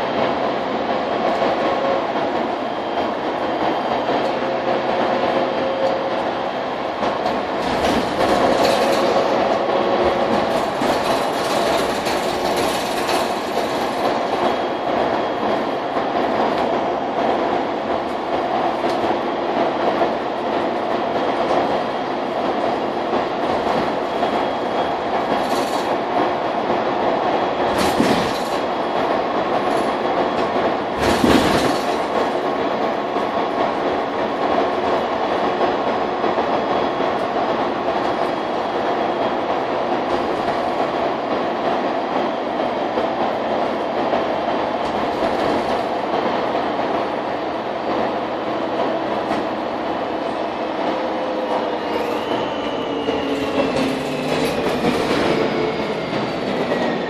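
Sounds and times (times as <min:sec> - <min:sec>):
bus engine drone with whine: 0:00.0 - 0:57.0.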